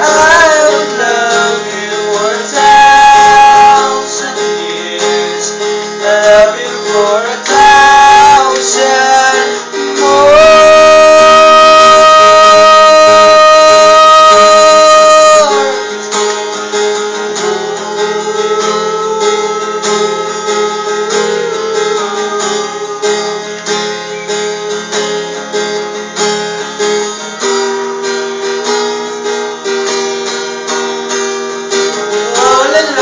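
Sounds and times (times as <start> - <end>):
acoustic guitar picking: 0.0 - 33.0.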